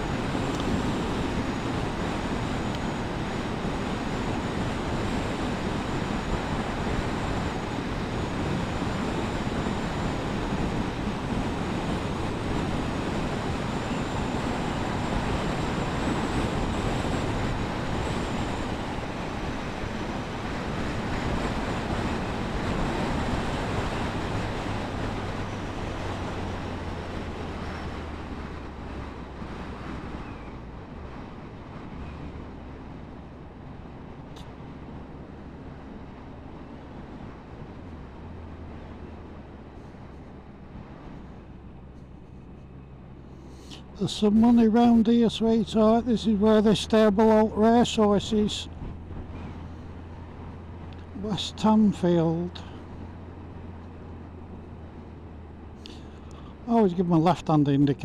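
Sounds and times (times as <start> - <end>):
wind and road rush: 0.0 - 58.0.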